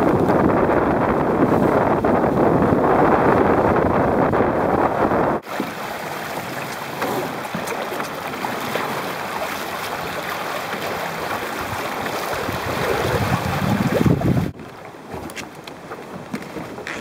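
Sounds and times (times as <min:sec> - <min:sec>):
water rushing past boat hull: 0:00.0 - 0:17.0
wind buffeting microphone: 0:00.0 - 0:17.0.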